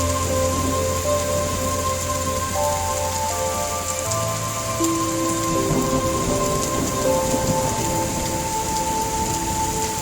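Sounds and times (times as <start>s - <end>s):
soft sustained music tones: 0.0s - 10.0s
steady rain falling: 0.0s - 10.0s.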